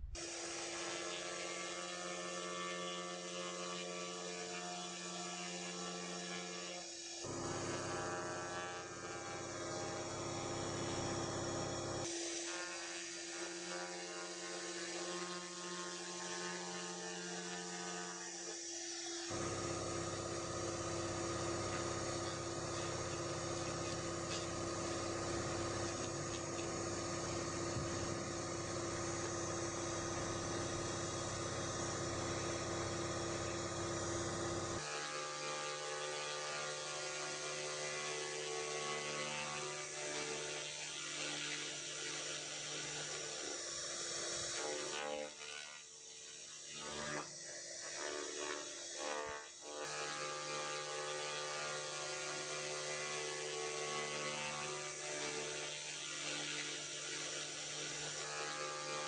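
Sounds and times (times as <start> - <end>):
laser machine electric hum: 0.0 - 43.9, 47.9 - 59.0.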